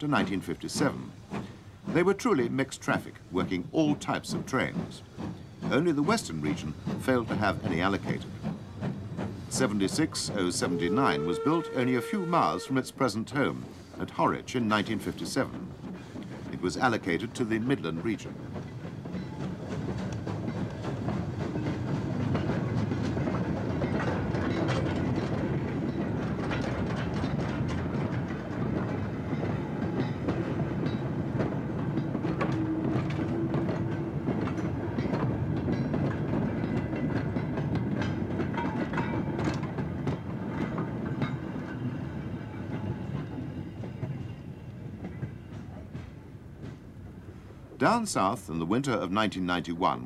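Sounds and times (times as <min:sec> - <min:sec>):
train wheels clattering over rail joints: 0:00.0 - 0:11.6, 0:13.2 - 0:47.4.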